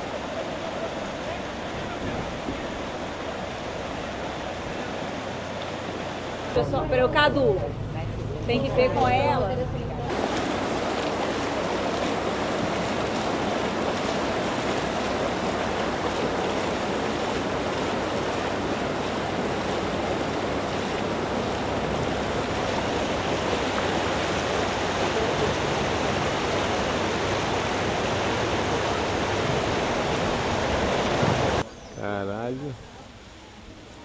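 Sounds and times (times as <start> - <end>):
fast-flowing water rushing: 0.0 - 7.8, 8.4 - 34.0.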